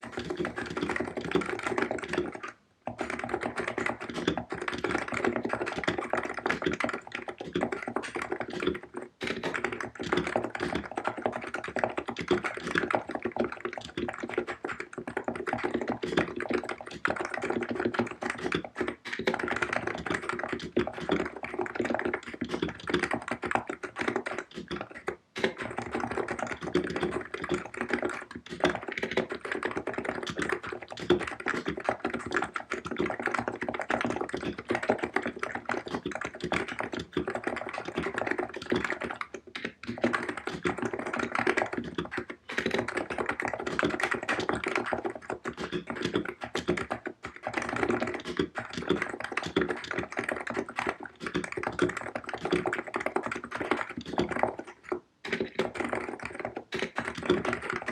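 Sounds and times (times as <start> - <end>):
fast keyboard typing: 0.0 - 57.9.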